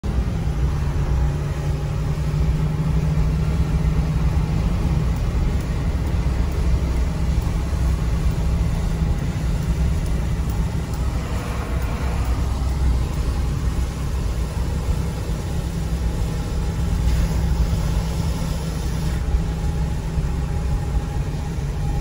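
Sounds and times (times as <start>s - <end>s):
engine drone: 0.0s - 22.0s
low hum: 0.0s - 22.0s
tyre noise on wet road: 0.0s - 22.0s.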